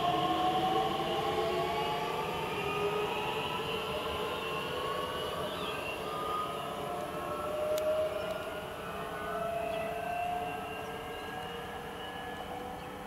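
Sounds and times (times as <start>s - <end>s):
electric train traction whine: 0.0s - 13.0s.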